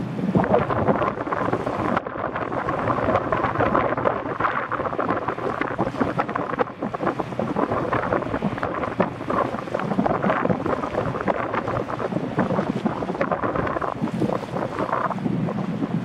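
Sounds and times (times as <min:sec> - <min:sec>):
ferry engine and wake rushing: 0:00.0 - 0:16.0
wind buffeting microphone: 0:00.0 - 0:16.0.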